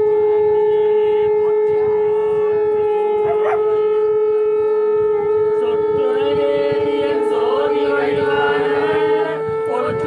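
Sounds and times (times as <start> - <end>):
loud steady drone: 0.0 - 10.0.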